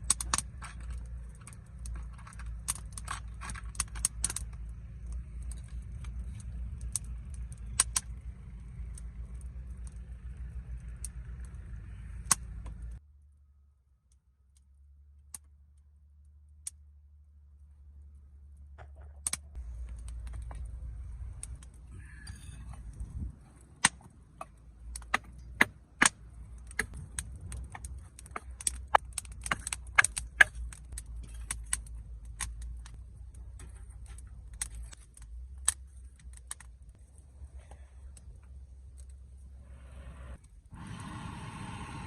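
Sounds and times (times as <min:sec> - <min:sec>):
sharp irregular clicks and cracks: 0:00.0 - 0:13.0, 0:17.6 - 0:39.2
low steady rumble: 0:00.0 - 0:42.0.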